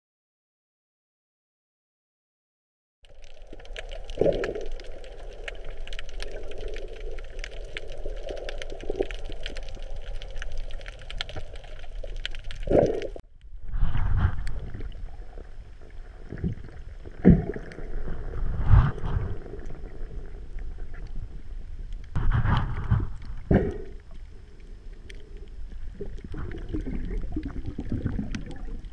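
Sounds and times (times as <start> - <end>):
dense crackle of underwater clicks: 3.0 - 13.6, 14.2 - 28.9.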